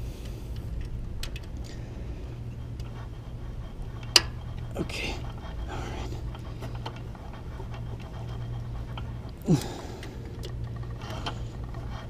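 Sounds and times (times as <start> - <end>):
steady low hum: 0.0 - 12.0
person breathing hard: 1.6 - 11.9.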